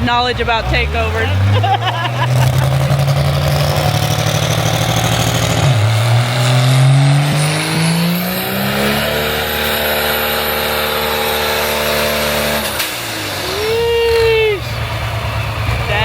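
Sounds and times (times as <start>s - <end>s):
diesel engine free-revving: 0.0s - 16.0s.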